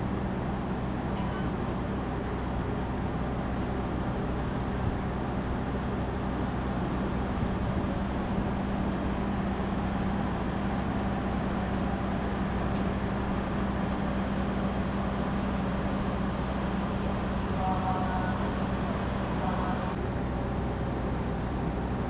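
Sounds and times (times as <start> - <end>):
diesel train engine drone: 0.0 - 22.0.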